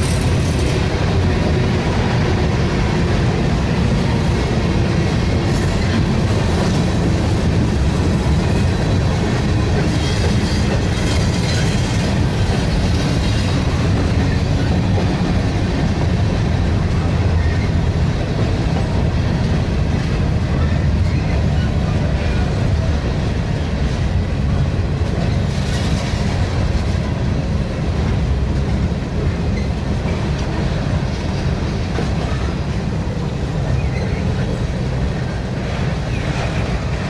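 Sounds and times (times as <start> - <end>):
train wheels rumbling on bridge: 0.0 - 37.0.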